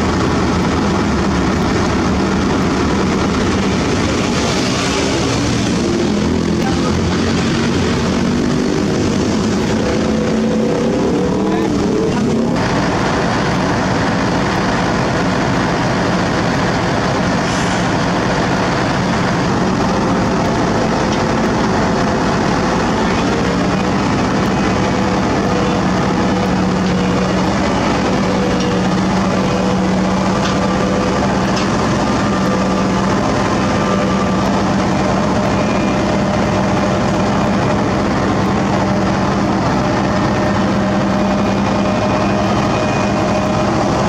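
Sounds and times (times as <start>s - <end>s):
cutter drum grinding asphalt: 0.0s - 44.0s
diesel engine droning: 0.0s - 44.0s.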